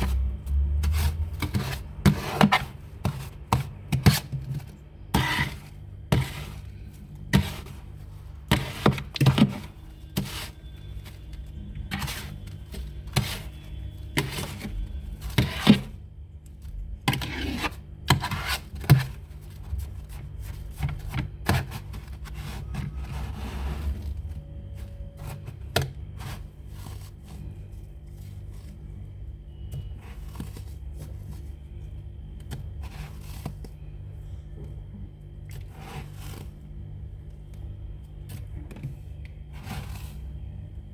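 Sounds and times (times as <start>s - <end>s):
frost scraping in freezer: 0.0s - 34.0s, 35.4s - 36.8s, 38.2s - 40.4s.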